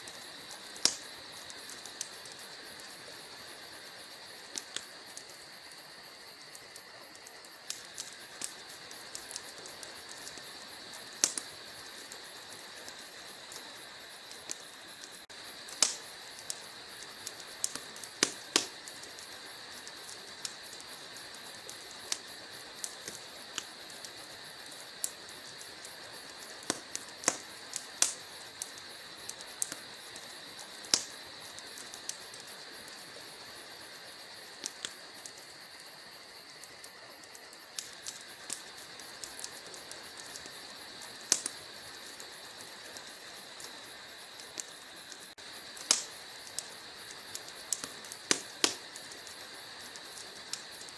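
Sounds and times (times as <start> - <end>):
fire hiss: 0.0 - 50.9
wood fire crackling: 0.0 - 50.9.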